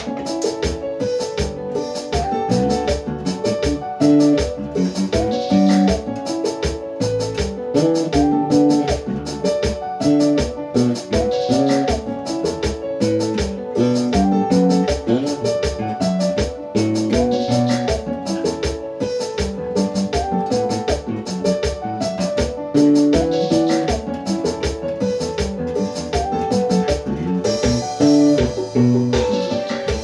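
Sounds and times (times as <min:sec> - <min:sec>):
deep bass guitar line: 0:00.0 - 0:06.3, 0:07.0 - 0:18.7, 0:19.4 - 0:30.0
band music: 0:00.0 - 0:30.0
keyboard chords: 0:00.0 - 0:30.0.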